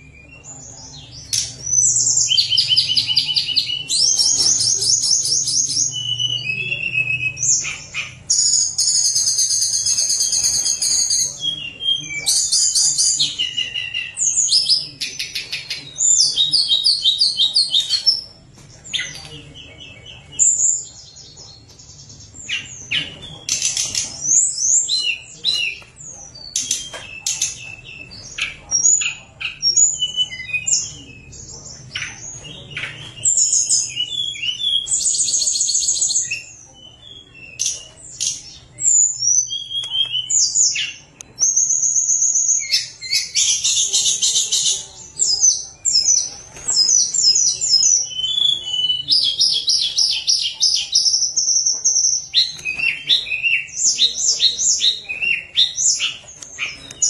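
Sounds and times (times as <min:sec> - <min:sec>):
bird singing whistles and trills: 0:00.0 - 0:18.3, 0:22.4 - 0:57.0.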